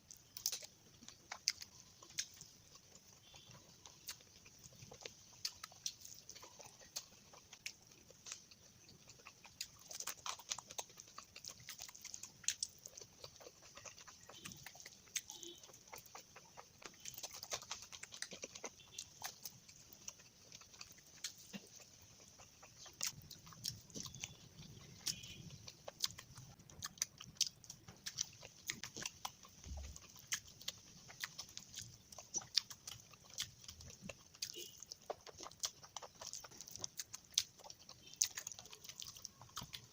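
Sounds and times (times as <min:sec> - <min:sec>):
wet chewing and lip smacking: 0:00.0 - 0:39.9.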